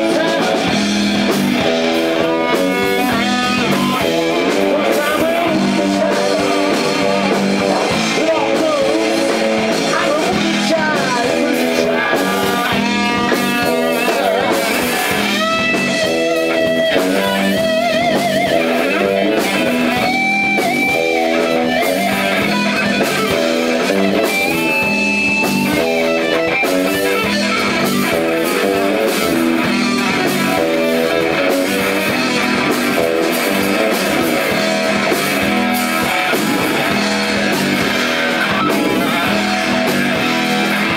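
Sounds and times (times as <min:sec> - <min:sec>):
electric guitar lead line: 0:00.0 - 0:40.9
live rock band playing: 0:00.0 - 0:40.9.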